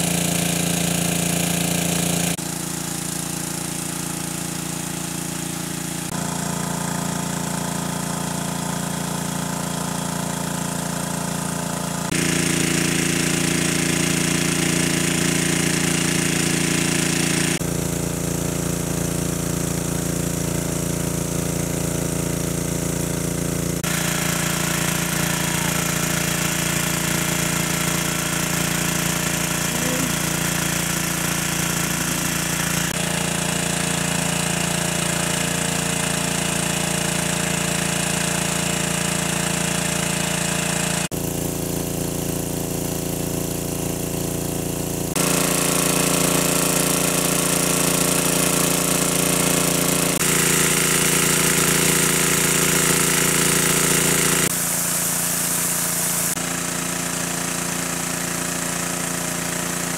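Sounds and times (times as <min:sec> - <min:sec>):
water pump humming: 0:00.0 - 0:59.9.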